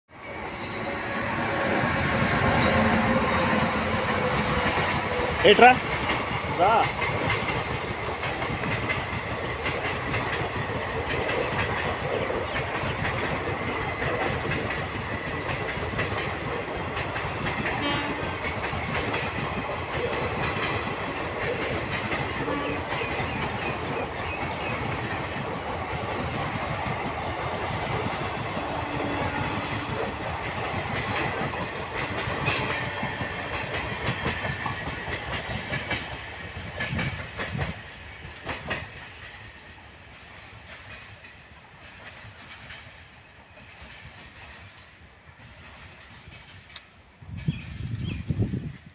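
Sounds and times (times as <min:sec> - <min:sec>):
train wheels clattering on rails: 0:00.2 - 0:48.9.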